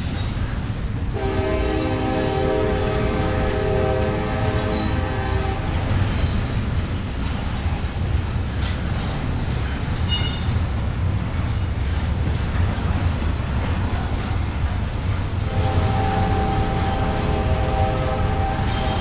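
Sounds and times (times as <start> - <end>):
freight train rumbling on rails: 0.0 - 19.0.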